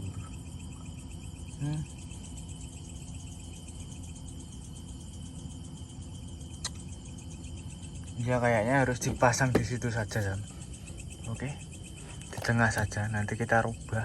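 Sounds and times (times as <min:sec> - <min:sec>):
crickets chirping: 0:00.0 - 0:14.0
low background hum: 0:00.0 - 0:14.0.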